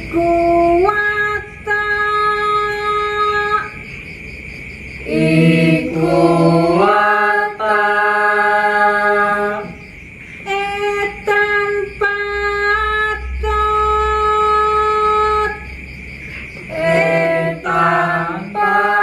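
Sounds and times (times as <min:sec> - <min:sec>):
voices singing slow melody: 0:00.0 - 0:19.0.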